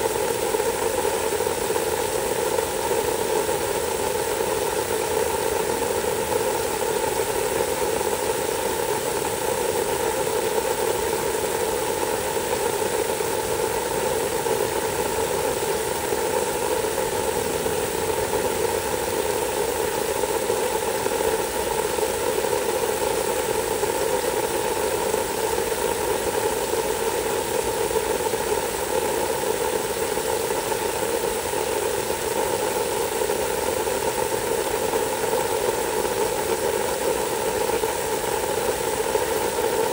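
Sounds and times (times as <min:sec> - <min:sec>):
garden hose spraying water: 0:00.0 - 0:39.9.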